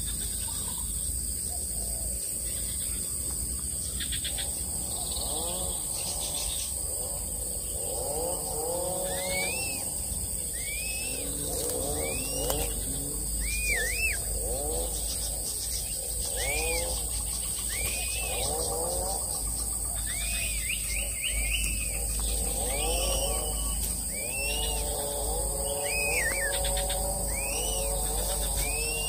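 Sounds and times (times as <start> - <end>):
low rising and falling bird calls: 0.0 - 29.0
short arched bird calls: 3.8 - 29.0.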